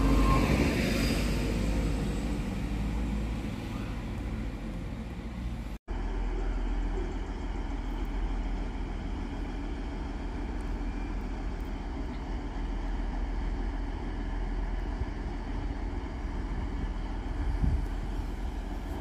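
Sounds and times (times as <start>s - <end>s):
train engines rumbling: 0.0s - 19.0s.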